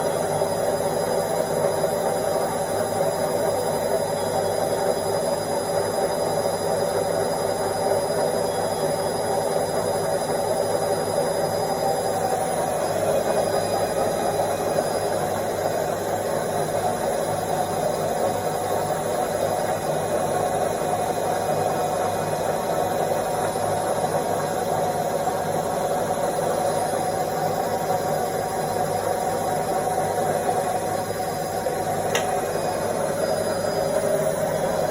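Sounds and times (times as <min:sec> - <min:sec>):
washing machine spinning: 0:00.0 - 0:34.9.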